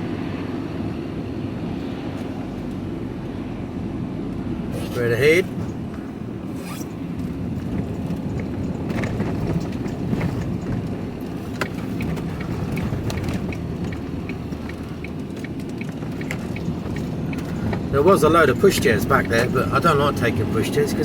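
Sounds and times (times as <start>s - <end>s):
van engine and tyres rumbling: 0.0s - 21.0s.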